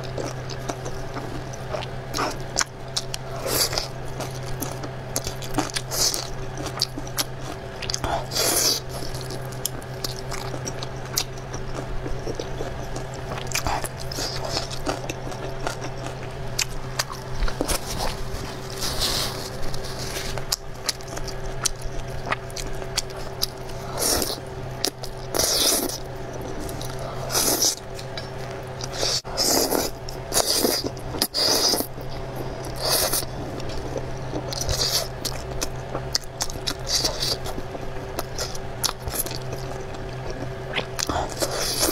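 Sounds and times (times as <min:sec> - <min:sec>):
chewing and slurping noodles: 0:00.0 - 0:41.9
low hum: 0:00.0 - 0:41.9.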